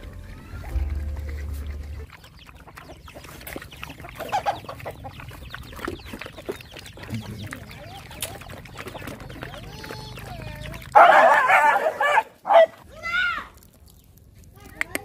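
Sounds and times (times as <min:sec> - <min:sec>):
dogs lapping and chewing food: 0:00.0 - 0:15.0.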